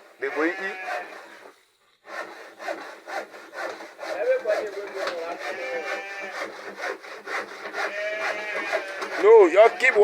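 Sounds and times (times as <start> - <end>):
rhythmic rasping scraping strokes: 0.0 - 10.0.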